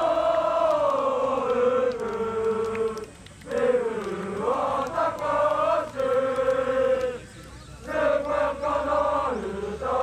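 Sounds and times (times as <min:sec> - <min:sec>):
crowd chanting in unison: 0:00.0 - 0:10.0.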